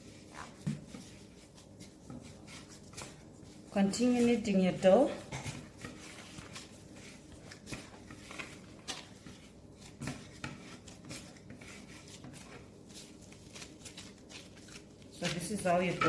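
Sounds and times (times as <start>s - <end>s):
hands kneading dough: 0.0s - 16.0s.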